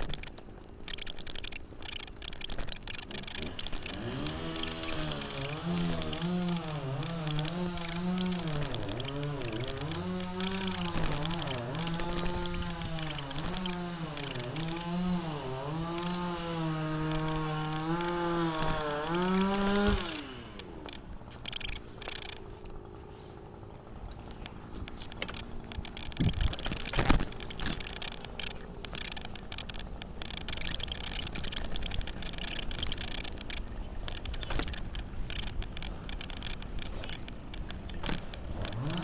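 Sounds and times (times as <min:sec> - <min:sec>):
rapid uneven ticking: 0:00.0 - 0:39.0
small engine running: 0:00.0 - 0:39.0.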